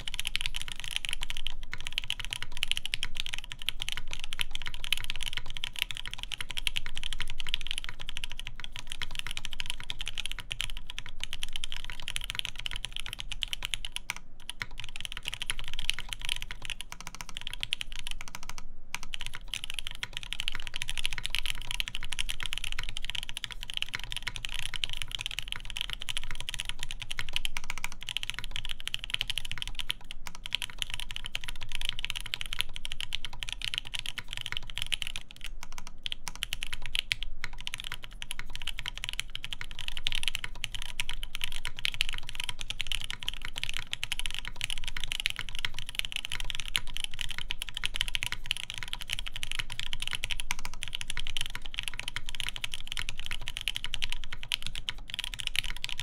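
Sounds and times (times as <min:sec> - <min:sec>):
fast typing on mechanical keyboard: 0:00.0 - 0:56.0.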